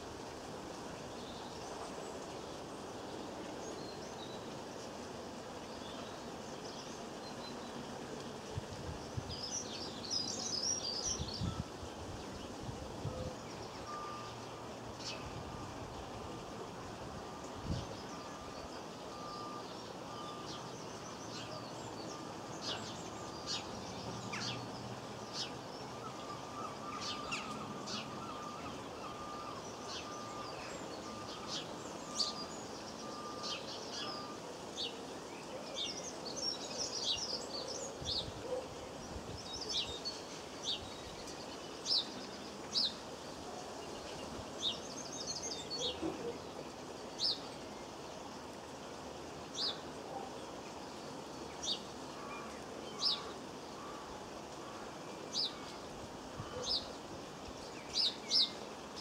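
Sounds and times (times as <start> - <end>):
birds chirping and twittering: 0.0 - 59.0
faint steady tone: 0.0 - 59.0
steady outdoor hiss: 0.0 - 59.0.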